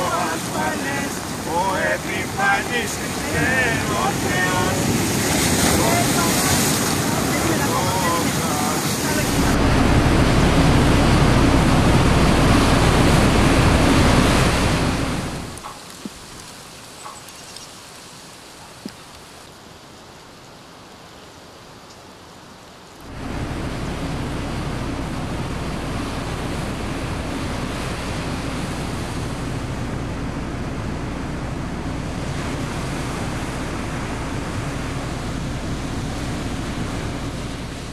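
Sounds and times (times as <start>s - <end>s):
strong wind over rough sea: 0.0s - 15.8s, 23.1s - 37.9s.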